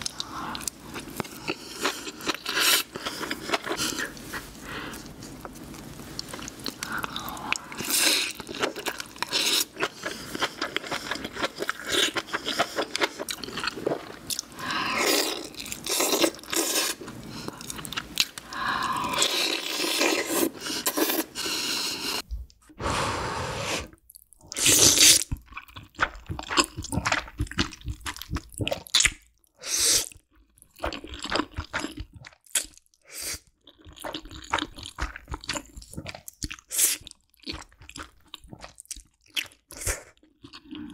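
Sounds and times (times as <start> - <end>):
chewing and crunching food: 0.0 - 22.2, 24.0 - 40.9
wet chewing of noodles: 0.0 - 22.2, 24.1 - 40.9.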